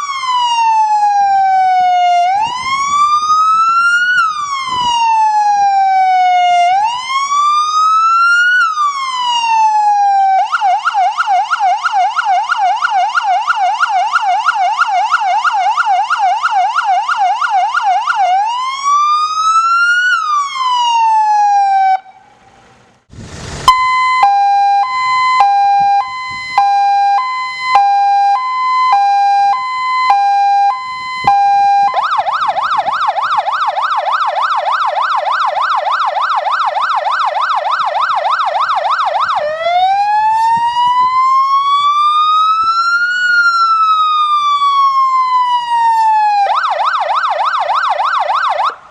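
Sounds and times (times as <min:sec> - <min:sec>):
fire engine siren: 0:00.0 - 0:48.9.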